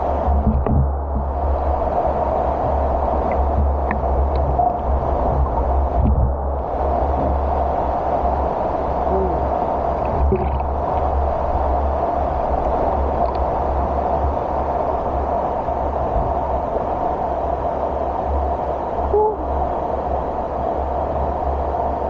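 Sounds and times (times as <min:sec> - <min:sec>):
deep rumble: 0:00.0 - 0:21.9
muffled waterfall rush underwater: 0:00.0 - 0:22.0.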